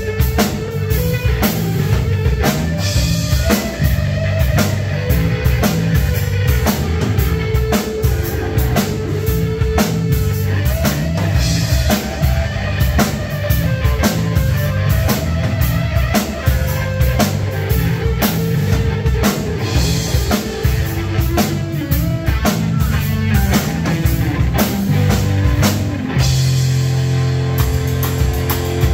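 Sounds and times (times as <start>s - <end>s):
electric bass: 0.0s - 28.9s
electric guitar: 0.0s - 28.9s.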